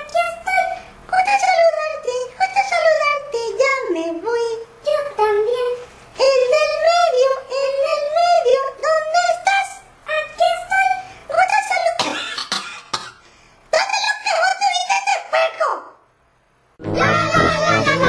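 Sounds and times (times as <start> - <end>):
high sing-song puppet voice: 0.0 - 12.3, 13.7 - 16.0, 16.8 - 18.0.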